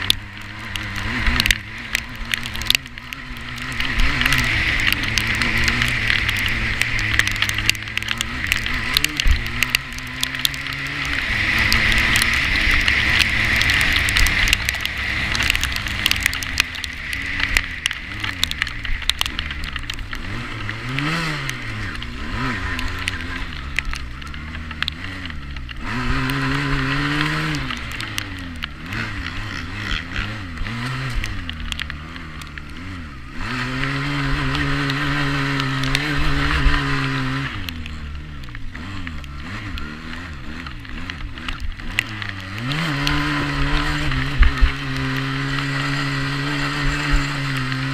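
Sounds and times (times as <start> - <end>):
quad bike engine revving: 0.0 - 47.9.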